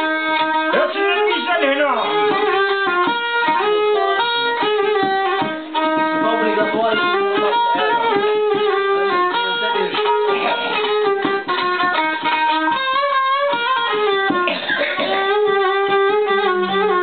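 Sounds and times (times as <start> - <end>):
plucked string instrument: 0.0 - 17.0
violin melody: 0.0 - 17.0.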